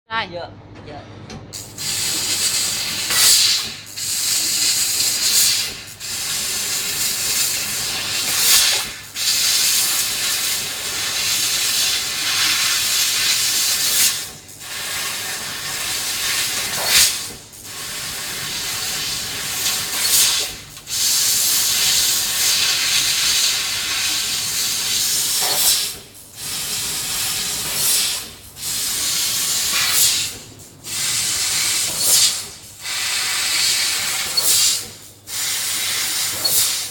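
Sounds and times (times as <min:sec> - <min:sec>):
cutting machine hissing: 0:01.6 - 0:34.8.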